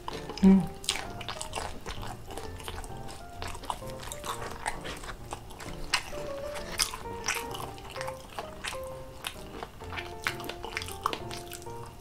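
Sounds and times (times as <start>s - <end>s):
close chewing: 0.0s - 12.0s
soft background music: 0.0s - 12.0s
wet mouth clicks: 0.0s - 12.0s.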